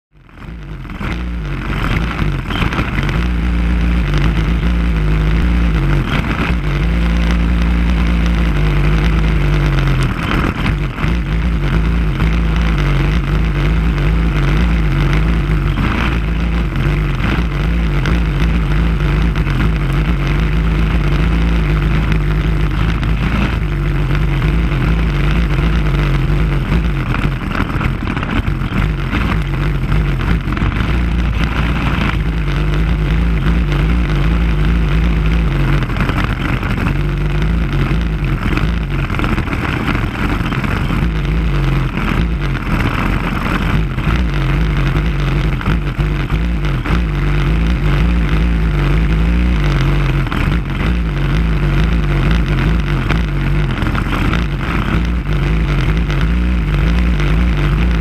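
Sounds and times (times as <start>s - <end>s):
racing kart engines: 0.2s - 58.0s.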